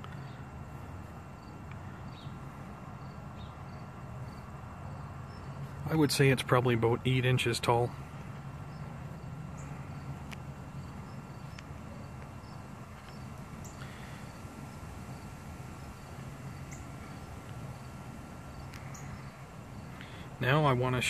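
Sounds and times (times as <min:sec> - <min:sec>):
faint constant high tone: 0:00.0 - 0:21.0
steady low hum: 0:00.0 - 0:21.0.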